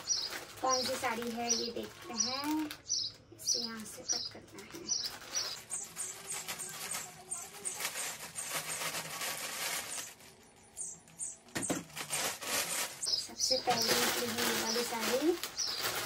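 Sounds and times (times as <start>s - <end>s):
bird chirping: 0.0s - 9.0s, 9.8s - 11.9s, 12.7s - 16.0s
plastic bag crinkling: 0.0s - 16.0s.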